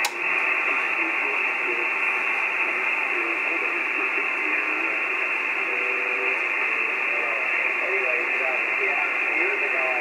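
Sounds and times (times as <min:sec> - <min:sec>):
radio receiver hiss: 0:00.0 - 0:10.0.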